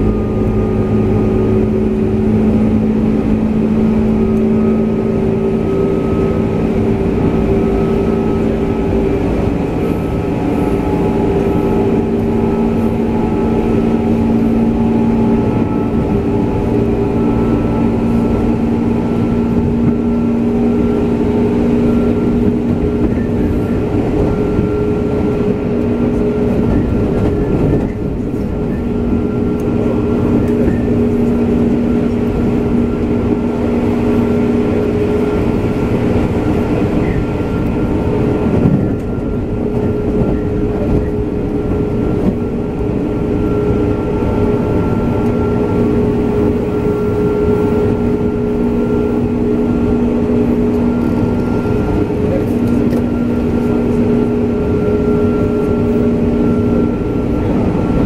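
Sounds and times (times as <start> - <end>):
train motor hum: 0.0 - 58.0
train wheels rumbling on rail: 0.0 - 58.0.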